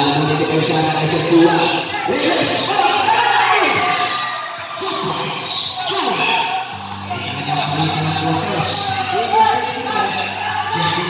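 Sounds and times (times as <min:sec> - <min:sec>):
crowd noise and shouts: 0:00.0 - 0:11.0
music: 0:00.0 - 0:11.0.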